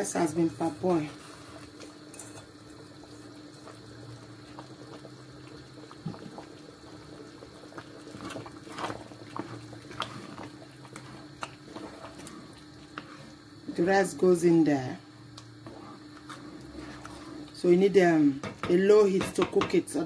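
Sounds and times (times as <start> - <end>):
stew bubbling in a pot: 0.0 - 20.0.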